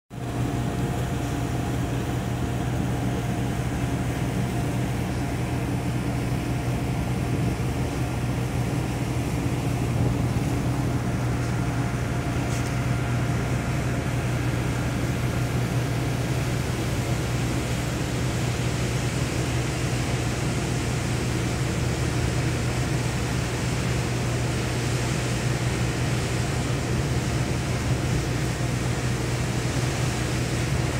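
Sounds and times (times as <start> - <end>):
ship engines humming: 0.1 - 30.9
wind and sea hiss: 0.2 - 30.9.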